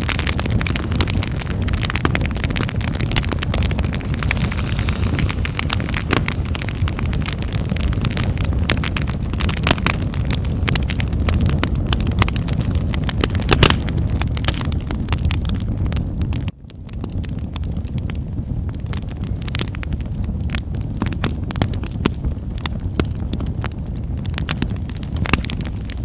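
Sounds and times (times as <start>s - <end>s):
low rumble of flames: 0.0s - 26.0s
wood crackling and popping: 0.0s - 26.0s.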